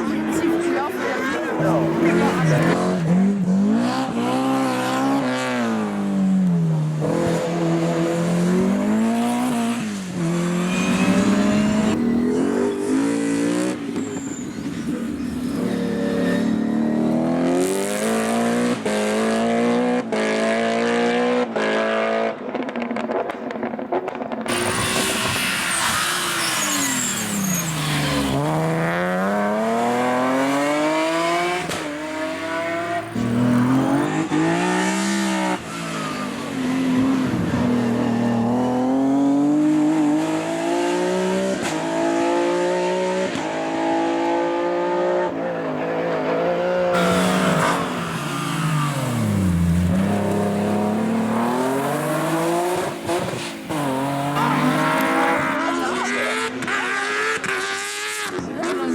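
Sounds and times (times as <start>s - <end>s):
racing car engines revving: 0.0s - 58.9s.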